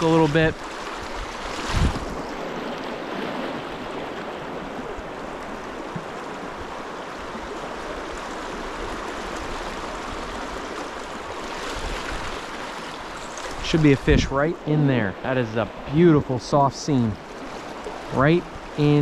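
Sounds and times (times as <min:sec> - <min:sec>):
rocky stream rushing and babbling: 0:00.0 - 0:19.0.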